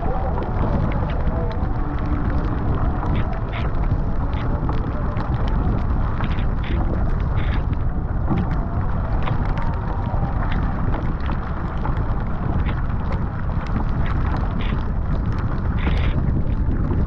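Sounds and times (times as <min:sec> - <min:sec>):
choppy water: 0:00.0 - 0:17.0
light ticks of rain: 0:00.0 - 0:17.0
wind buffeting microphone: 0:00.0 - 0:17.0.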